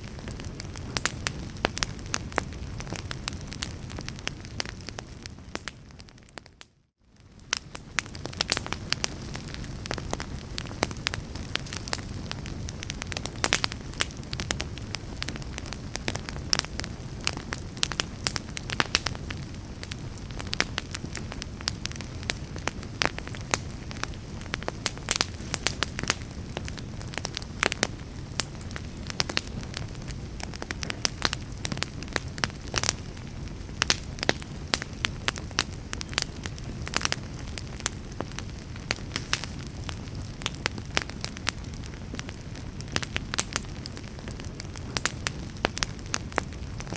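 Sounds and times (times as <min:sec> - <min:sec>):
burning logs crackling and popping: 0:00.0 - 0:46.9
low rumble of flame: 0:00.0 - 0:46.9.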